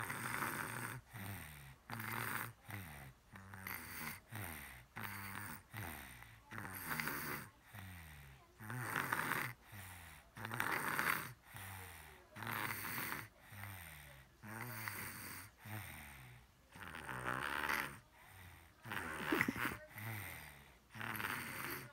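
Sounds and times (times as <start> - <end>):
toddler snoring: 0.0 - 21.9.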